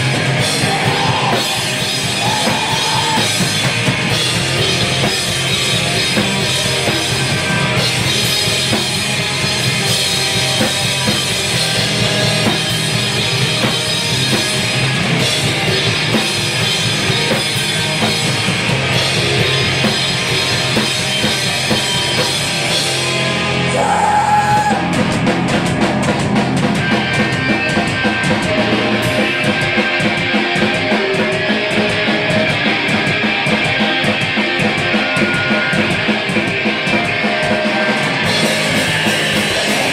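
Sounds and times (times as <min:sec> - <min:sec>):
hardcore punk band playing: 0:00.0 - 0:39.9.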